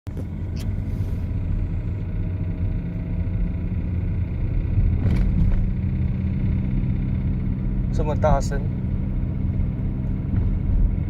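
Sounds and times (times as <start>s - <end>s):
car engine drone and rumble: 0.0s - 11.0s.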